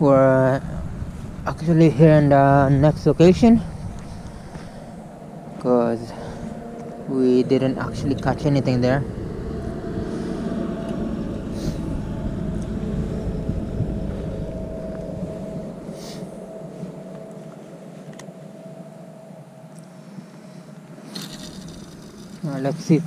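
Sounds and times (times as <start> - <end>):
road traffic rumble: 0.0 - 18.4, 21.1 - 23.0
faint hum: 0.0 - 23.0.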